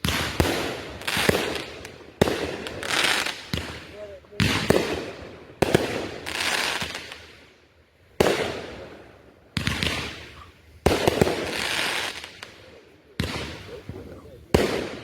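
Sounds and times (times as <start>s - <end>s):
fireworks bangs: 0.0s - 7.5s, 8.2s - 15.0s.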